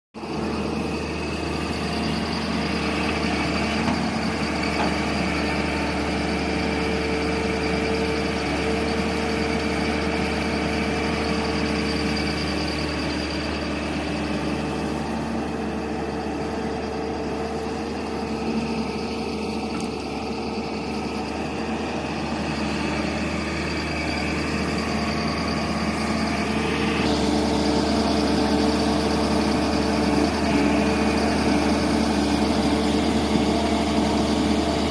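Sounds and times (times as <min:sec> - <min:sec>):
diesel excavator engine running: 0:00.2 - 0:34.9.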